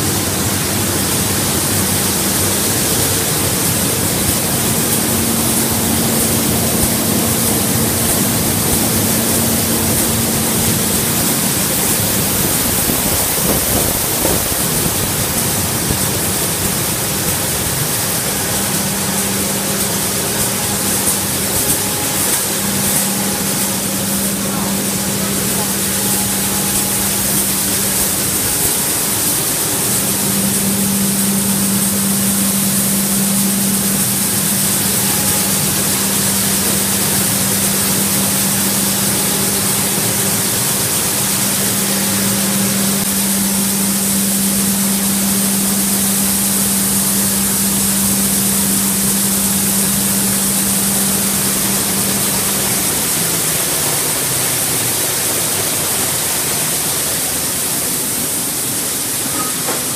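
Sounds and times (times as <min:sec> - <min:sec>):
machinery hum: 0:00.0 - 0:59.9
machinery loud hiss: 0:00.0 - 0:59.9.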